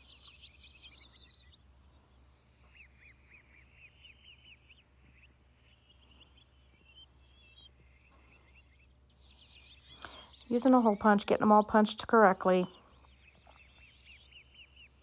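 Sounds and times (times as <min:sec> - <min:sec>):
faint bird chirping: 0:00.0 - 0:15.0
low electrical hum: 0:00.0 - 0:15.0.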